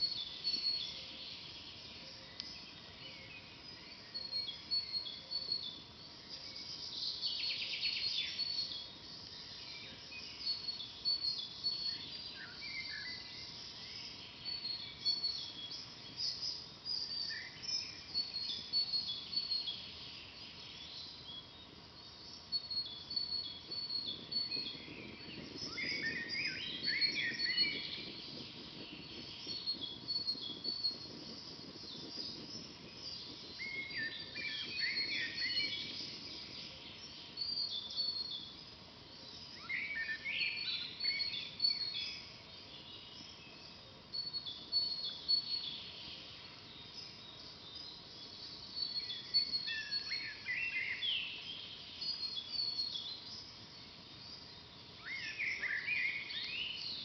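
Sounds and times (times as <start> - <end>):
faint steady background hiss: 0.0 - 57.0
songbirds chirping and trilling: 0.0 - 57.0.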